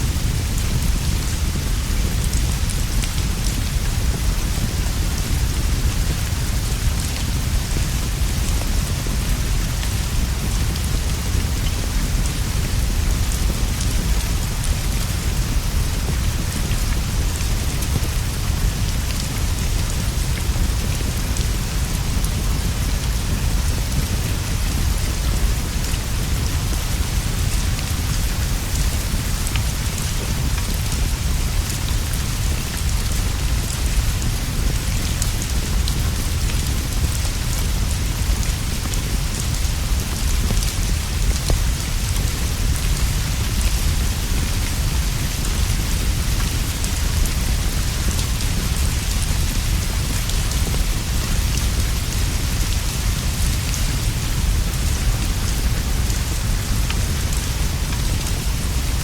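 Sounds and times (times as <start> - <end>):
rain on leaves and straw roof: 0.0 - 59.0.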